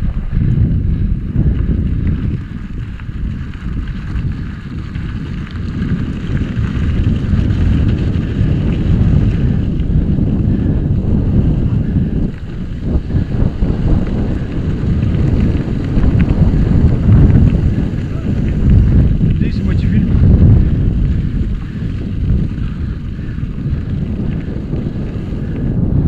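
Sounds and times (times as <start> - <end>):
wind buffeting microphone: 0.0 - 26.0
tyres rolling over gravel: 1.6 - 25.6.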